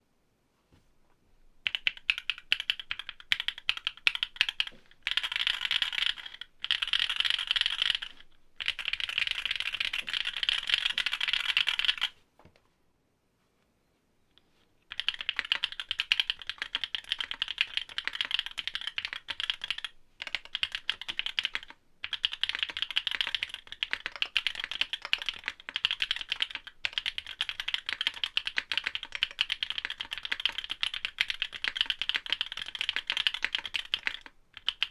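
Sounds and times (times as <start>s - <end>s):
mechanical keyboard typing: 1.6s - 12.1s, 14.9s - 34.9s.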